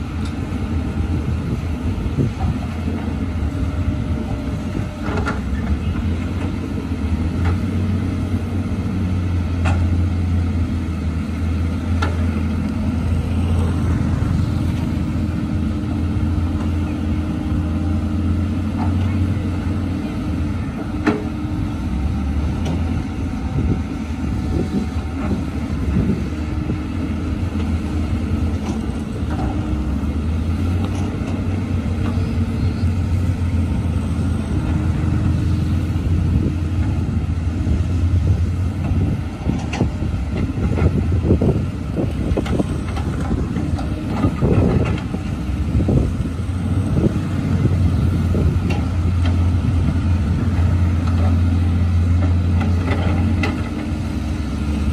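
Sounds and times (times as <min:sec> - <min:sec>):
excavator diesel engines droning: 0:00.0 - 0:54.9.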